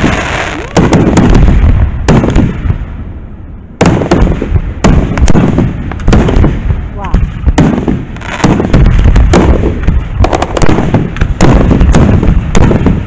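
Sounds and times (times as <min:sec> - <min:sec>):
fireworks booming and banging: 0:00.0 - 0:03.0, 0:03.8 - 0:13.0.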